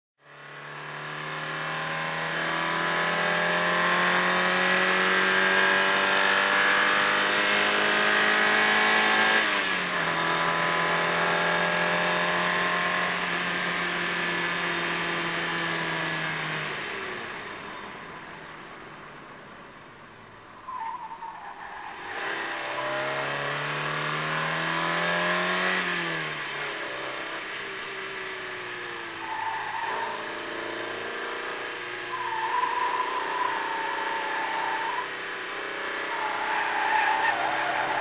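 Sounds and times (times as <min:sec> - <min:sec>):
car engine accelerating: 0:00.2 - 0:38.0
road and wind noise: 0:00.2 - 0:38.0.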